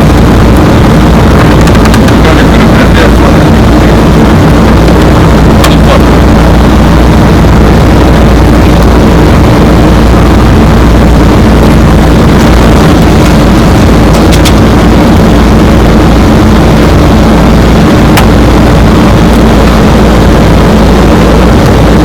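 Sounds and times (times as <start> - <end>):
cockpit airflow: 0.0 - 22.0
engine hum with low drone: 0.0 - 22.0.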